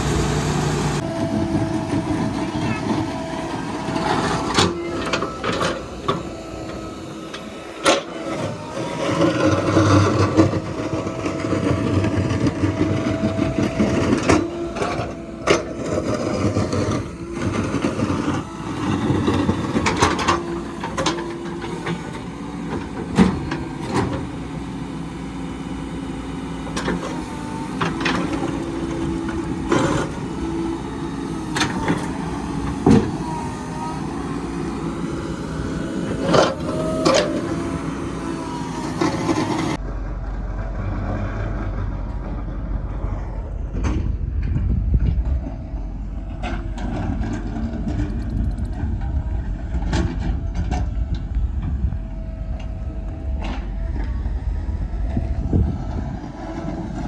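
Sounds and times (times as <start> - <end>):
heavy machinery engine hum: 0.0 - 57.0.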